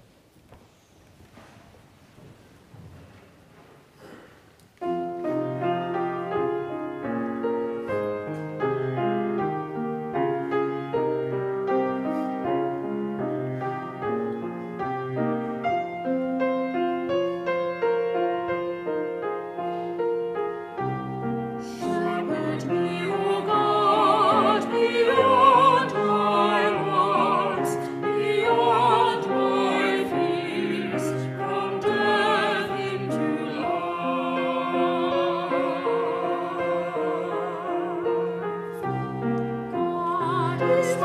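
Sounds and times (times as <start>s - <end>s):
piano playing hymn introduction: 4.8s - 41.0s.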